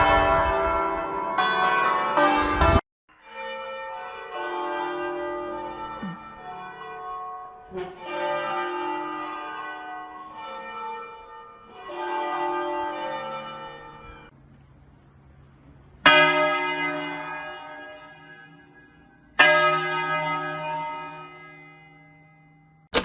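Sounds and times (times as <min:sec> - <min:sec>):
church bell tolling: 0:00.0 - 0:14.4, 0:16.0 - 0:23.0.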